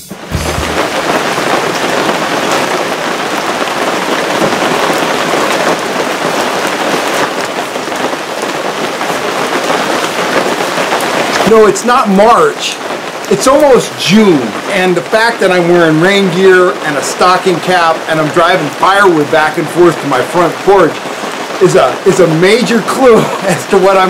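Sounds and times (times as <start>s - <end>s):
rain on wet pavement: 0.0s - 24.0s.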